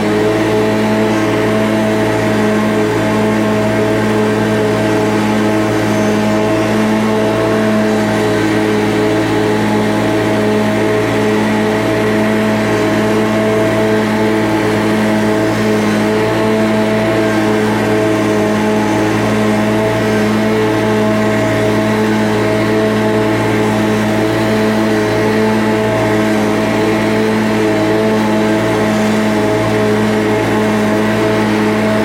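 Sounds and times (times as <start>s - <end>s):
gasoline engine running: 0.0s - 32.0s.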